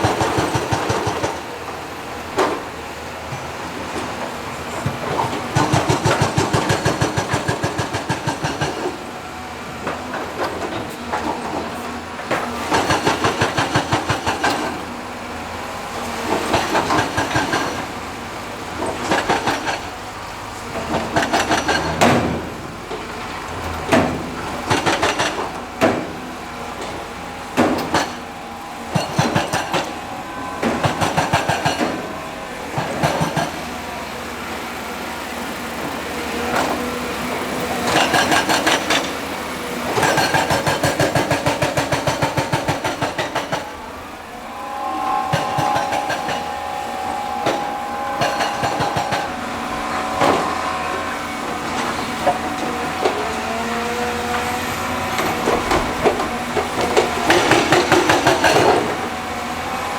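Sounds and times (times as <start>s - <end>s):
machinery clattering: 0.0s - 59.9s.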